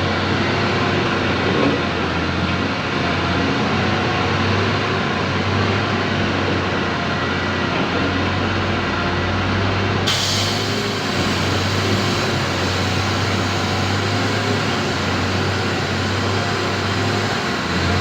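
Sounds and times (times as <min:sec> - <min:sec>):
diesel construction machinery running: 0:00.0 - 0:18.0.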